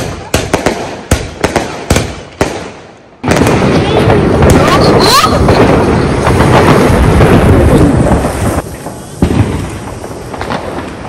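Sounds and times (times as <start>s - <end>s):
fireworks bangs and crackles: 0.0s - 11.0s
sharp firework bang: 0.0s - 11.0s.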